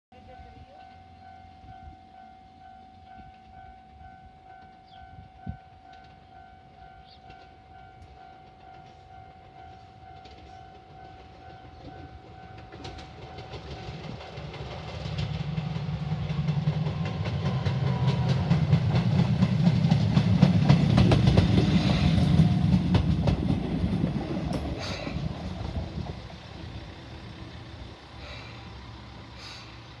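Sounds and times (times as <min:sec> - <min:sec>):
diesel railcar engine: 0:00.1 - 0:30.0
wheels clacking on rail joints: 0:05.9 - 0:30.0.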